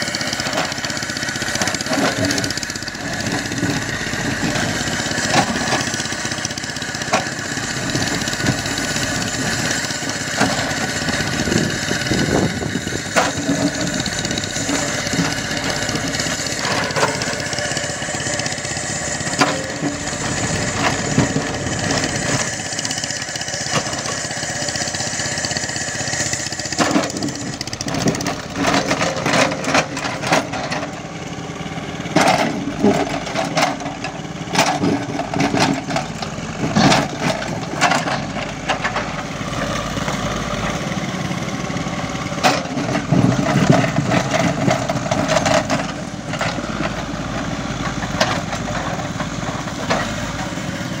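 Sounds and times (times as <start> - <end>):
diesel engine under load: 0.0 - 51.0.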